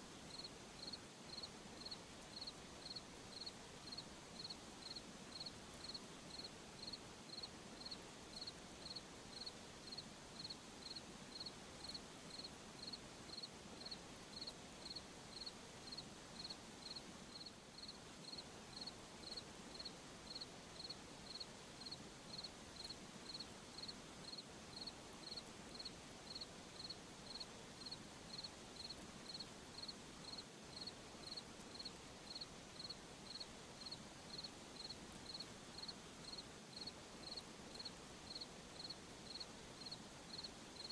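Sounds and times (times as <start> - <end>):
faint night background hiss: 0.0 - 40.9
cricket chirping: 0.3 - 40.9.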